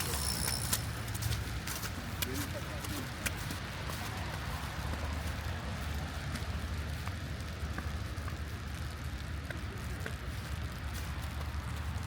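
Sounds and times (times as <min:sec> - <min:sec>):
city traffic rumble: 0:00.0 - 0:12.0
light rain hiss: 0:00.0 - 0:12.0.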